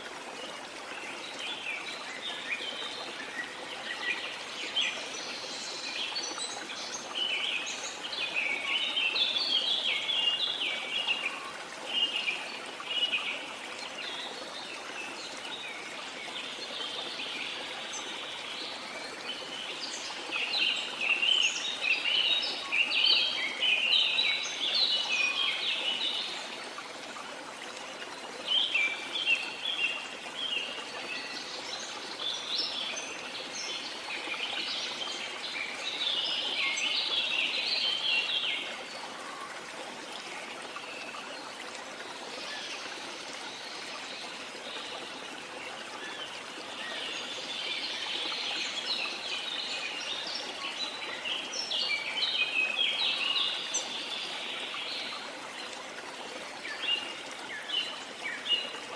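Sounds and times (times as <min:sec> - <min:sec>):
flowing water: 0:00.0 - 0:58.9.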